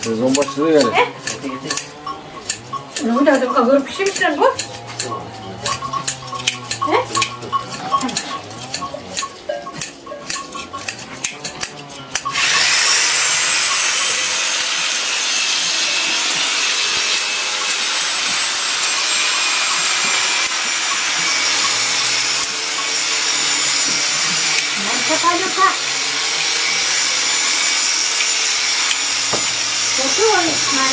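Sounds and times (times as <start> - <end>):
sheep shears snipping fleece: 0.0 - 30.9.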